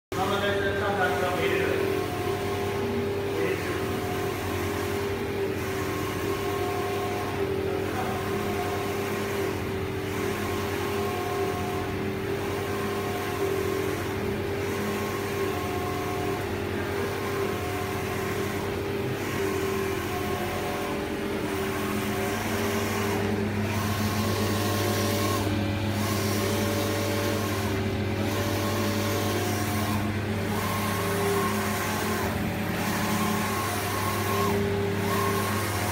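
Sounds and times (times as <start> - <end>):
machine hum: 0.1 - 35.9
print carriage motor whirring: 0.2 - 35.9.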